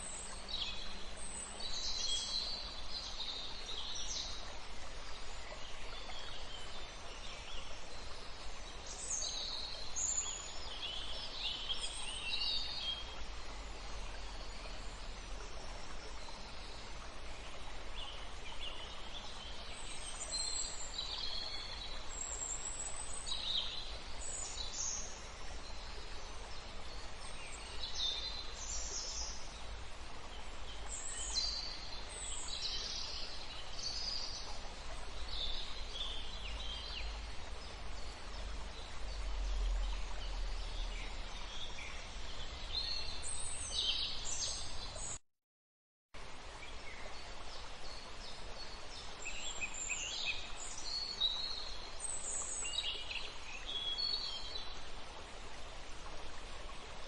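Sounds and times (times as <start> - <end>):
steady background hiss: 0.0 - 45.2, 46.2 - 57.0.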